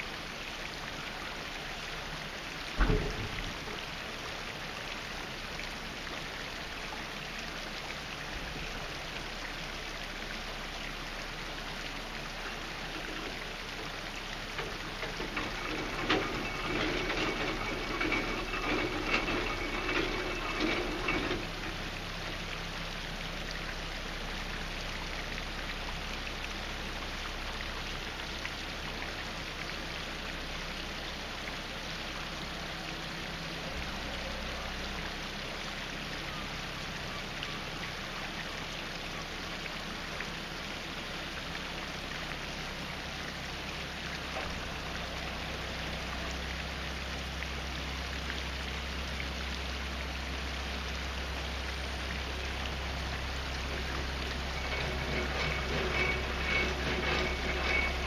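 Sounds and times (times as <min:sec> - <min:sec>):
boat engine running slowly: 0:00.0 - 0:58.0
water rushing in lock: 0:00.0 - 0:58.0.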